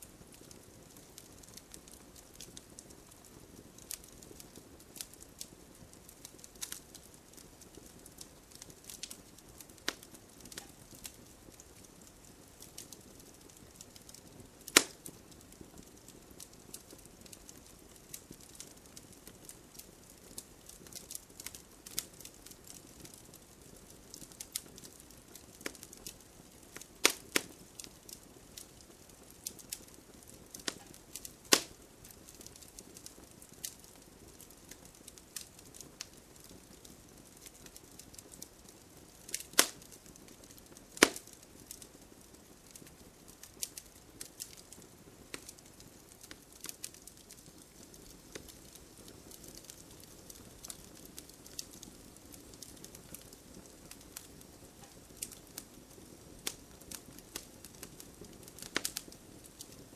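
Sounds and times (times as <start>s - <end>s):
faint steady hiss: 0.0s - 59.9s
wood fire crackling: 0.0s - 59.9s.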